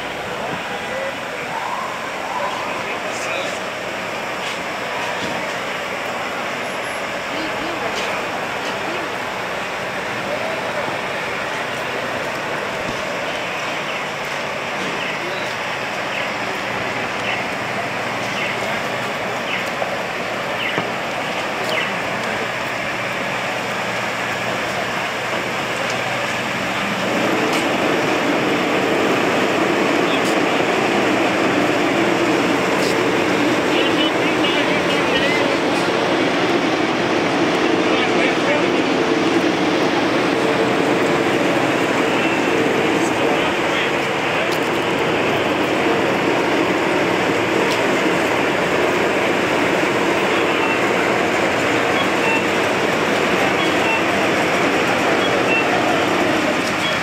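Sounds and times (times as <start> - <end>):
distant voices: 0.0 - 57.0
fire truck engines running: 0.0 - 57.0.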